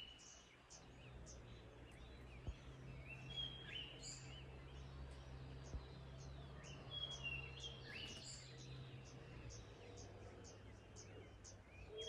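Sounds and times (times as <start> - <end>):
bird singing warbled phrases: 0.0 - 12.0.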